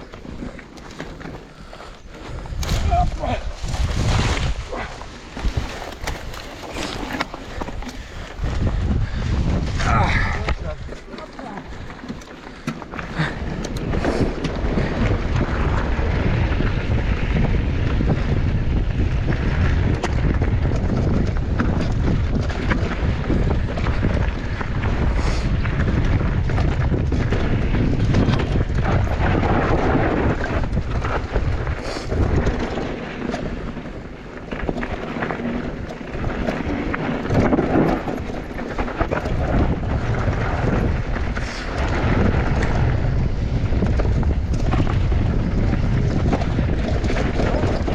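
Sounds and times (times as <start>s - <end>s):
bike knocks and rattles: 0.0s - 47.9s
bike tyres rumbling on trail: 0.0s - 47.9s
wind buffeting microphone: 0.0s - 47.9s.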